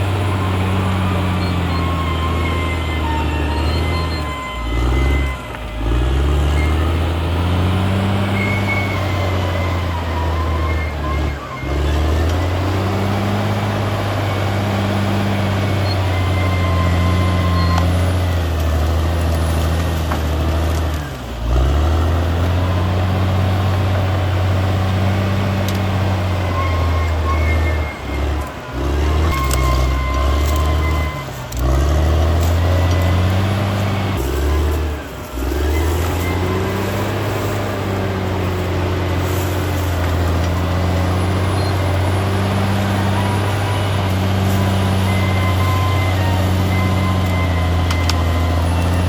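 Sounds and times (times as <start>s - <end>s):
short high-pitched squeals: 0.0s - 19.7s, 24.9s - 49.0s
bulldozer diesel engine droning: 0.0s - 49.0s.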